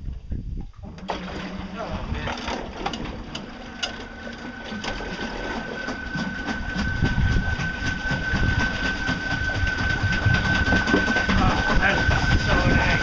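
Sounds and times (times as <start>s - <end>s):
low rumble of water and hull: 0.0s - 13.0s
electric outboard motor whine: 0.8s - 13.0s.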